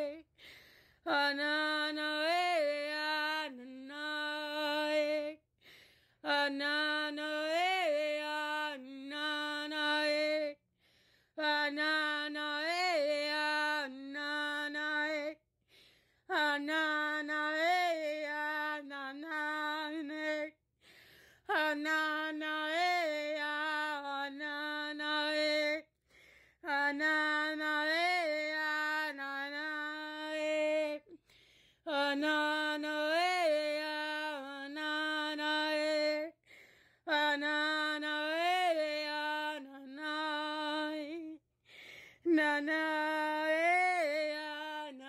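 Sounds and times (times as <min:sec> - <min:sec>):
woman chanting: 0:00.0 - 0:00.4, 0:01.0 - 0:05.5, 0:06.2 - 0:10.6, 0:11.4 - 0:15.4, 0:16.3 - 0:20.6, 0:21.4 - 0:25.9, 0:26.6 - 0:31.2, 0:31.8 - 0:41.4, 0:42.2 - 0:45.0.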